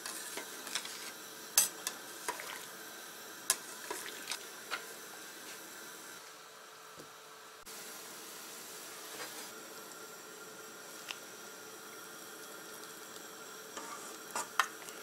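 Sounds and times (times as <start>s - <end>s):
low hiss: 0.0s - 14.8s.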